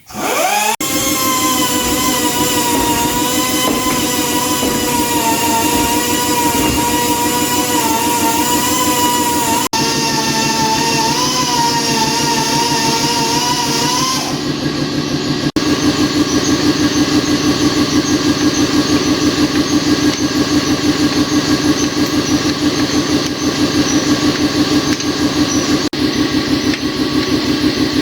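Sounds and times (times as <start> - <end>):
motor running with even pulsing: 0.0 - 28.0.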